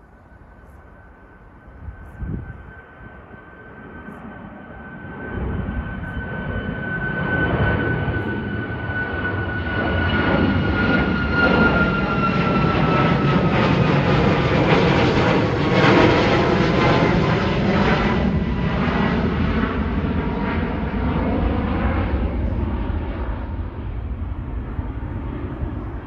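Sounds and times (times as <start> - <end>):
jet airliner roar: 0.0 - 26.0.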